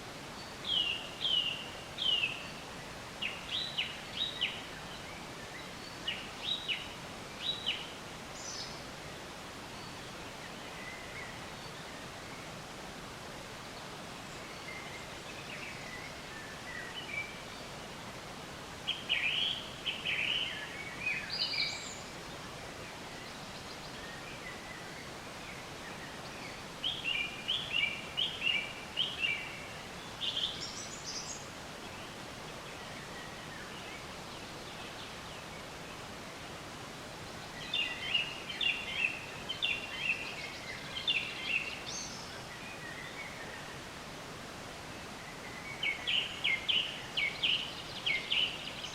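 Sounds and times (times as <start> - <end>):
songbird chirping: 0.0 - 48.9
steady background hiss: 0.0 - 48.9.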